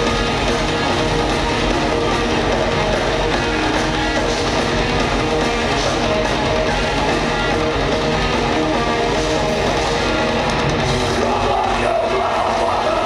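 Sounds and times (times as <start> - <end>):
live heavy rock band: 0.0 - 13.0.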